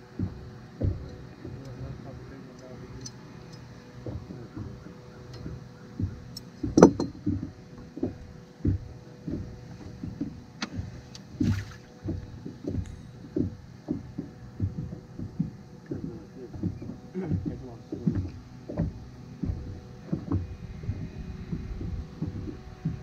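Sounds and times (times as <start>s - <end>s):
faint steady hum: 0.0s - 23.0s
waves slapping against hull: 0.0s - 23.0s.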